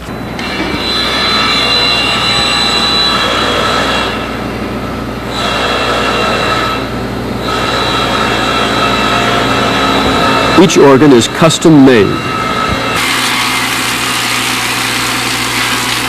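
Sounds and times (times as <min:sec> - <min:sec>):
factory machinery drone: 0:00.0 - 0:16.0.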